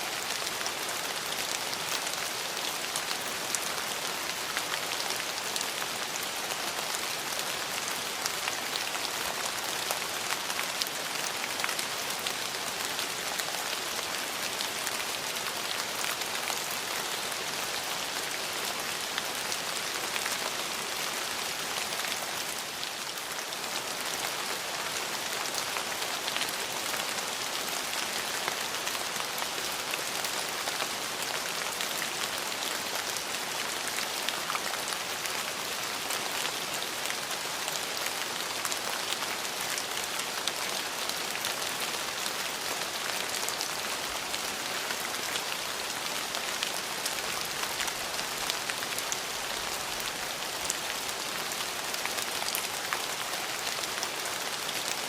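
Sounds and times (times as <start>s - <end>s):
steady rain falling: 0.0s - 55.0s
raindrops ticking on hard surfaces: 0.1s - 55.0s.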